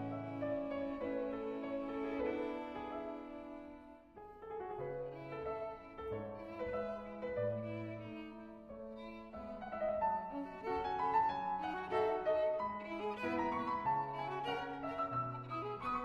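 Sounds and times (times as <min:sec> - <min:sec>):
piano: 0:00.0 - 0:16.0
violin melody: 0:00.0 - 0:16.0.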